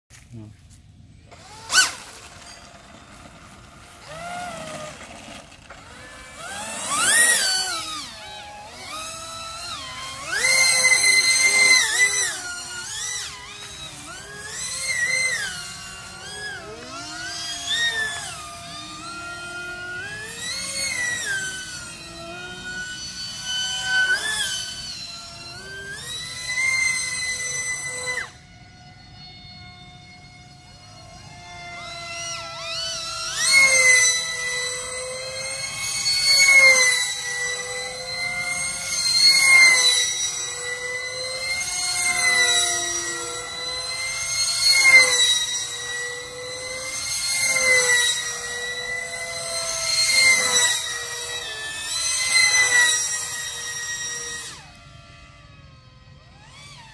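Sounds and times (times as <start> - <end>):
electric motor whine: 0.1 - 56.9.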